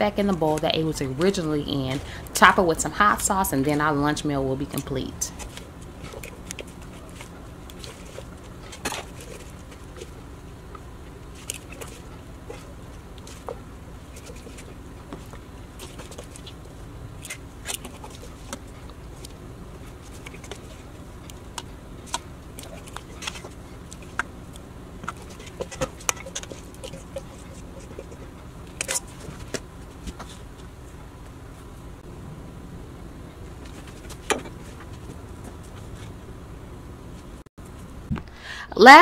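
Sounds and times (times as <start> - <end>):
steady low hiss: 0.0 - 38.5.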